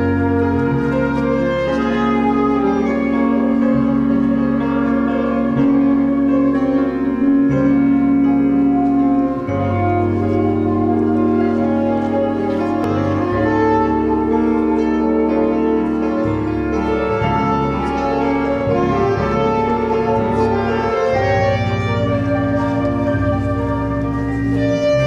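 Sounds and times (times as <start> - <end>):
instrumental music with layered chords: 0.0 - 25.0.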